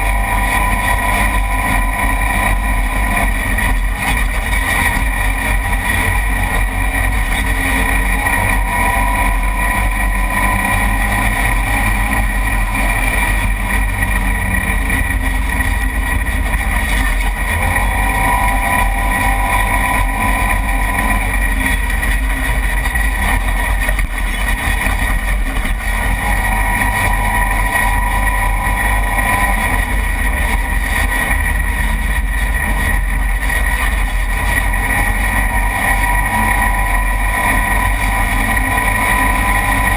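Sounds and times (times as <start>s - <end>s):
vehicle engine under load: 0.0s - 39.9s.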